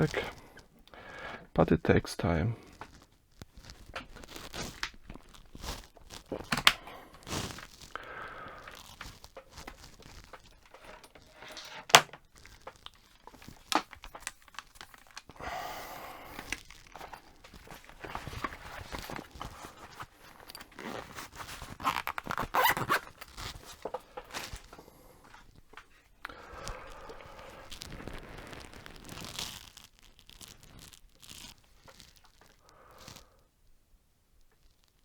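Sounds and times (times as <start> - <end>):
rustling and crackling: 0.0 - 35.0.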